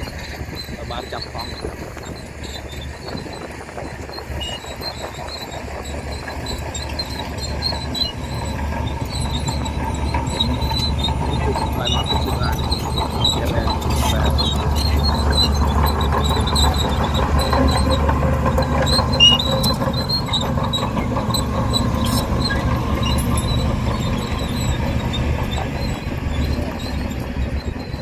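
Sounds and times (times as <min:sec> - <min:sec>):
diesel engine rumbling: 0:00.0 - 0:28.0
steel tracks squealing: 0:00.0 - 0:28.0.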